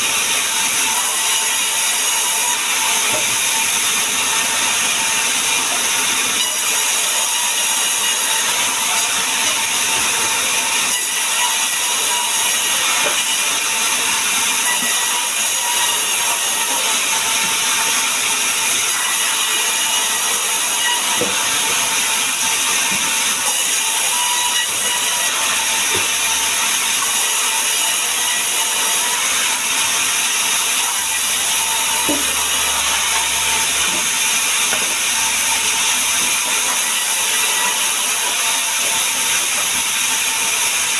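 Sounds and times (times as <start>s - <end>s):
woodworking power tool running: 0.0s - 40.9s.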